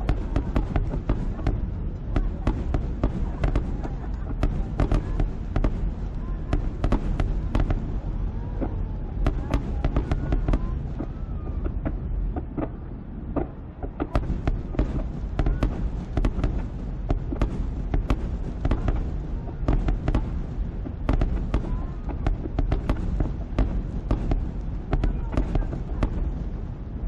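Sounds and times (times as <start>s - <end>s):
fireworks booming and cracking: 0.0s - 27.0s
low rumble: 0.0s - 27.0s.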